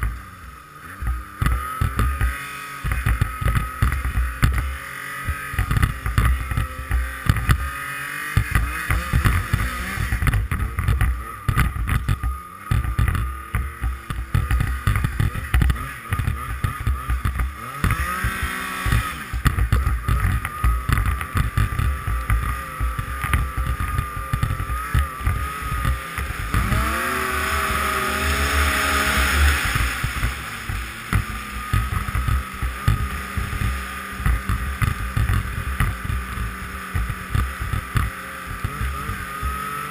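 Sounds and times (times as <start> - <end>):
snowmobile engine accelerating: 0.0 - 39.9.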